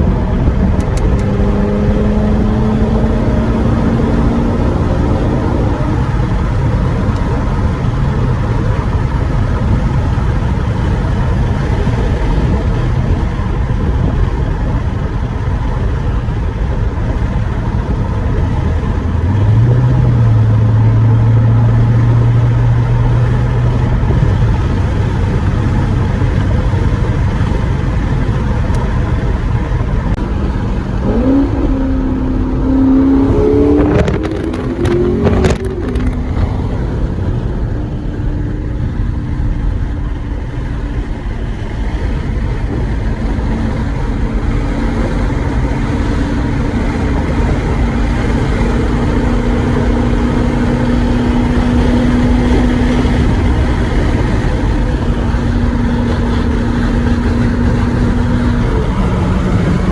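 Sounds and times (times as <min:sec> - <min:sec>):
car engine revving: 0:00.0 - 0:59.9
road rumble: 0:00.0 - 0:59.9
wind noise: 0:00.0 - 0:59.9.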